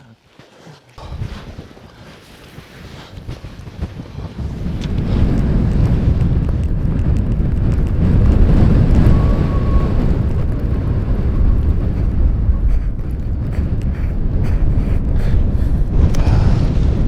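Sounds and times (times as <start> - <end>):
blizzard wind buffeting microphone: 1.0 - 17.0.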